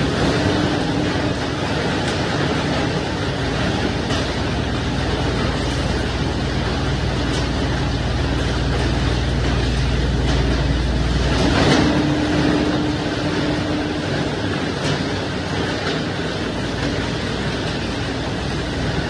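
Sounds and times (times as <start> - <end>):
branch shredder grinding: 0.0 - 19.0.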